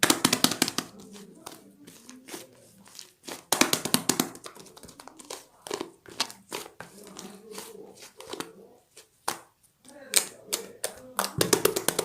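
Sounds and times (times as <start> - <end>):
crinkling and rustling by hand: 0.0 - 12.0.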